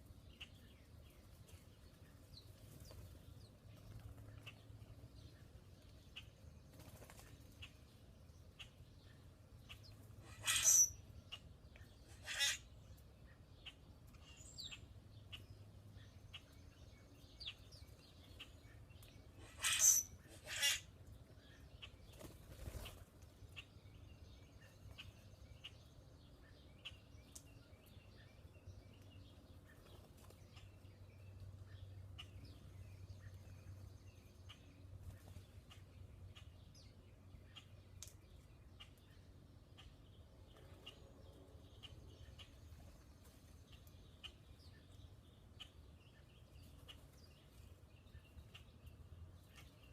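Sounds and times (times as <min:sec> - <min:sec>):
faint bird chirps and clicks: 0:00.3 - 0:01.8, 0:03.8 - 0:49.9.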